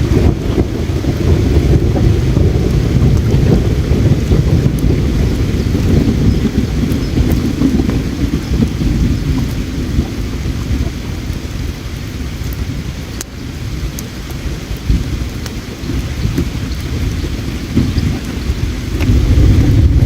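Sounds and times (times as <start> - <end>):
campfire crackling and popping: 0.0 - 20.0
river water flowing: 0.0 - 20.0.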